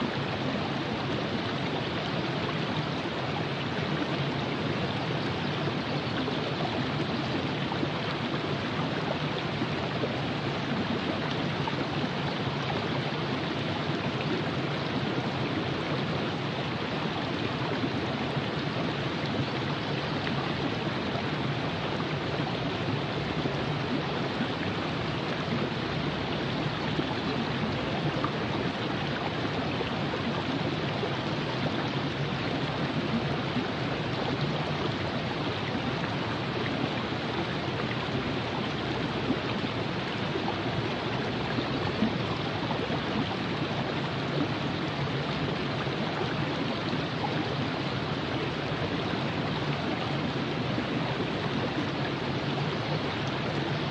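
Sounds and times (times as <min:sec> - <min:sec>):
river flowing over rocks: 0:00.0 - 0:53.9.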